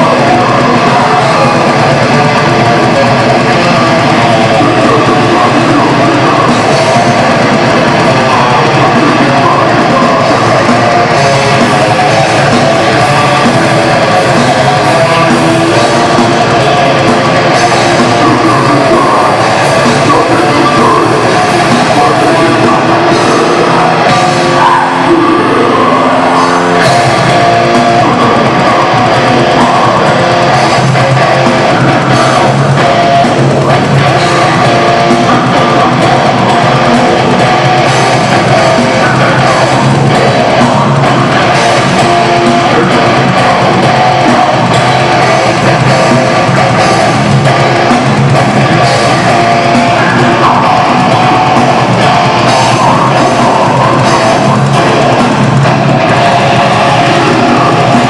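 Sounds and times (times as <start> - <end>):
heavy metal band playing live: 0.0 - 58.0.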